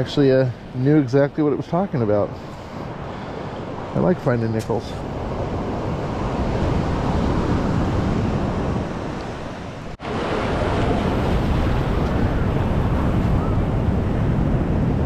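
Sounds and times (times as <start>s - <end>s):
surf washing over sand: 0.0s - 15.0s
wind buffeting microphone: 0.0s - 15.0s.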